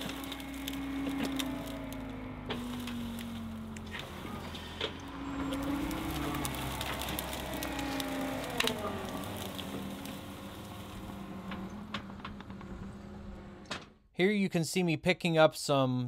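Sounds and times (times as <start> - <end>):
branches cracking and snapping: 0.0 - 13.2
diesel engine running: 0.0 - 13.9.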